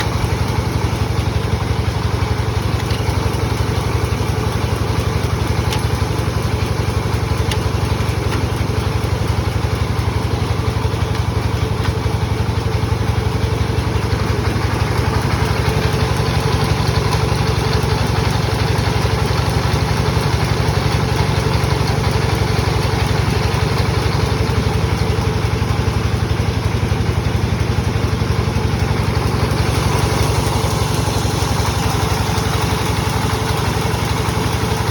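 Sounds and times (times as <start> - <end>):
sawmill saw running: 0.0 - 34.9.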